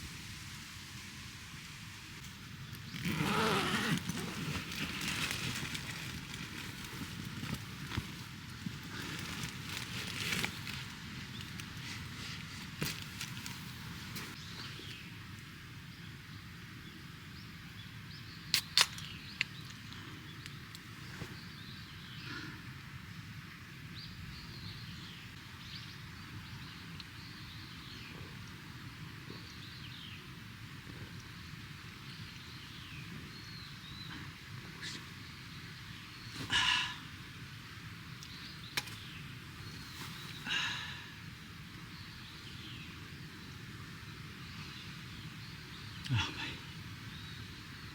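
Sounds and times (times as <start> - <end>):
outdoor background noise: 0.0 - 47.9.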